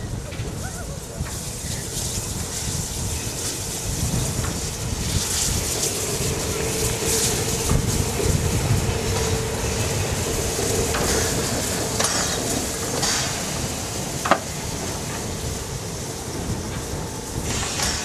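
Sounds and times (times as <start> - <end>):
steam hissing: 0.0 - 18.0
steam locomotive puffs: 0.0 - 18.0.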